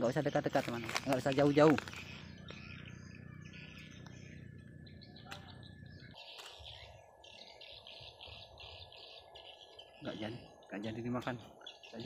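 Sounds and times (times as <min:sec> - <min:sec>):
faint bird chirping: 0:00.0 - 0:12.0.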